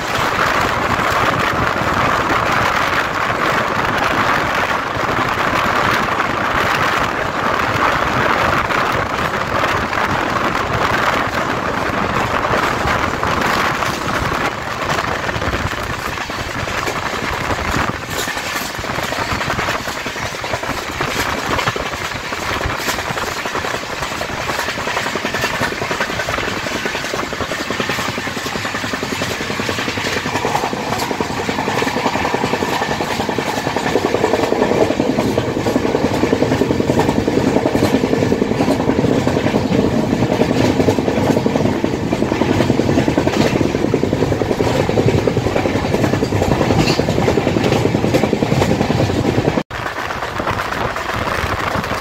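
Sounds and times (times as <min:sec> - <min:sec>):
train wheels clattering on track: 0:00.0 - 0:52.0.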